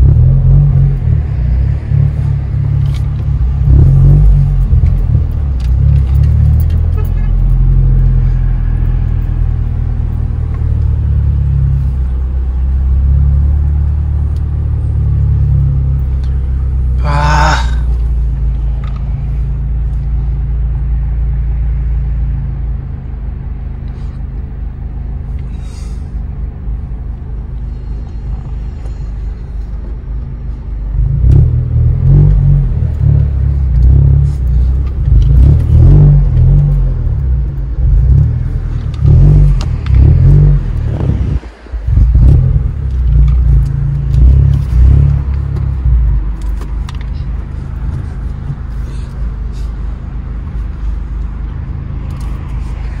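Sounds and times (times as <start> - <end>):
car engine revving: 0.0 - 23.1, 30.7 - 53.0.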